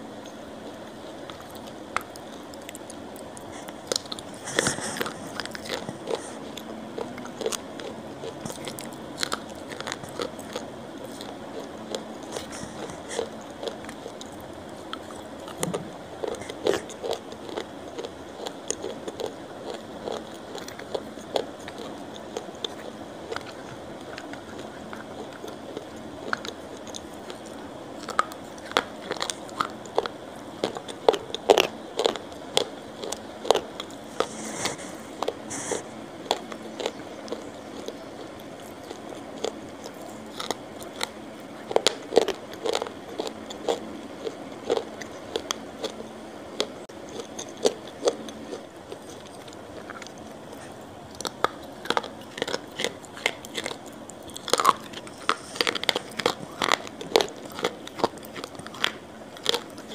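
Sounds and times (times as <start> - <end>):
chewing with wet mouth clicks: 0.1 - 59.9.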